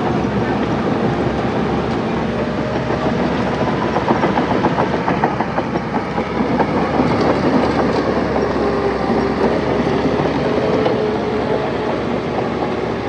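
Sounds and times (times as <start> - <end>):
bulldozer engine droning: 0.0 - 13.0
steel tracks clanking: 0.0 - 13.0.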